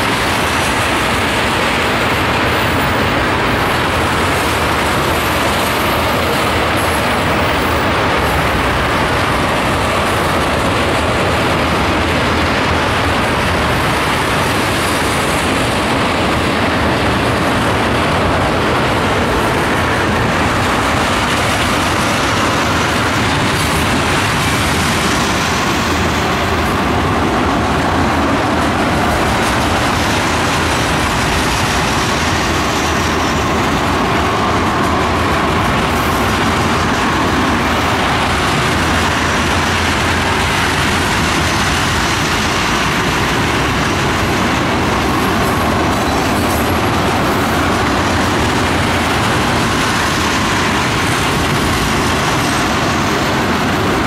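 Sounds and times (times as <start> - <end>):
steel wheels rumbling on rails: 0.0 - 54.0.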